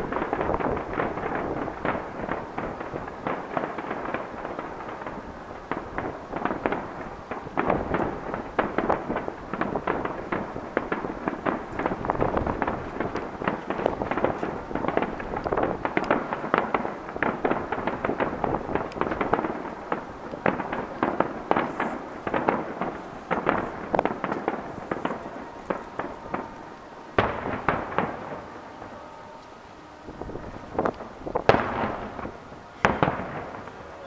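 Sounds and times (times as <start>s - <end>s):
fireworks booming and crackling: 0.0s - 34.0s.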